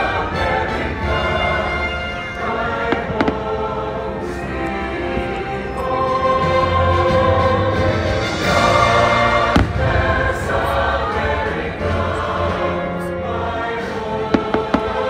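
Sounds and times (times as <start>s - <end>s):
orchestral music with choir: 0.0s - 15.0s.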